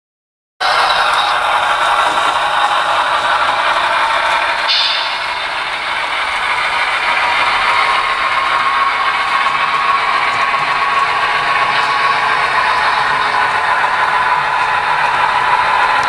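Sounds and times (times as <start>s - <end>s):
model train motor whirring: 0.6s - 16.0s.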